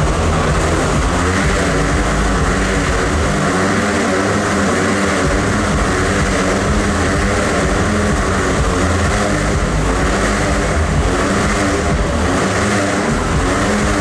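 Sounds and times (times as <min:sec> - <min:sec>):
motorcycle engines droning: 0:00.0 - 0:14.0.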